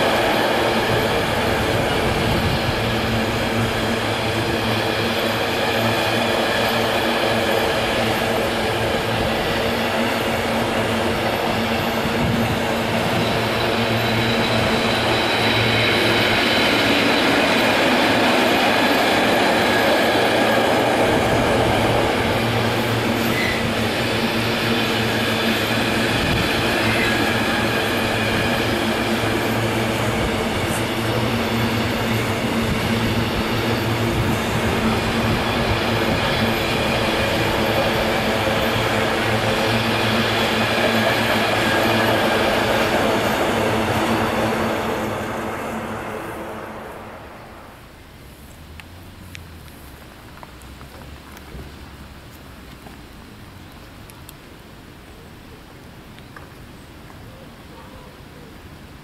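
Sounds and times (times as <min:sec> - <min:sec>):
freight train rolling past: 0:00.0 - 0:52.2.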